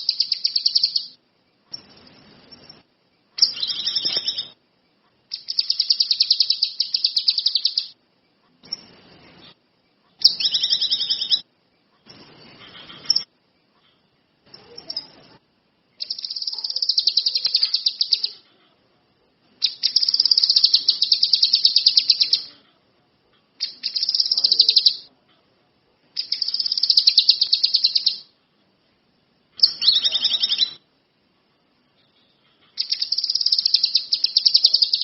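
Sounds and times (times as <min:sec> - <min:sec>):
songbird high-pitched trills: 0:00.0 - 0:15.4, 0:16.0 - 0:18.4, 0:19.6 - 0:22.5, 0:23.6 - 0:25.1, 0:26.2 - 0:28.3, 0:29.6 - 0:30.8, 0:32.0 - 0:35.0.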